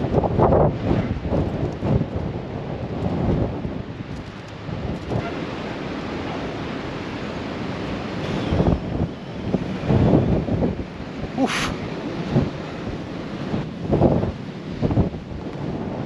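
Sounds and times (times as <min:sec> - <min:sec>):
rush of sea water: 0:00.0 - 0:16.0
wind buffeting microphone: 0:00.0 - 0:16.0.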